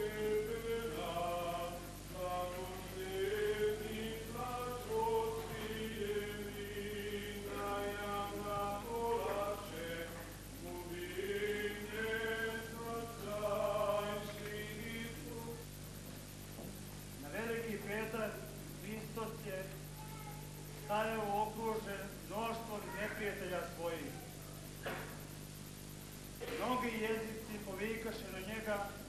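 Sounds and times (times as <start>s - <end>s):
voices singing slow chant: 0.0s - 15.9s, 17.2s - 25.2s.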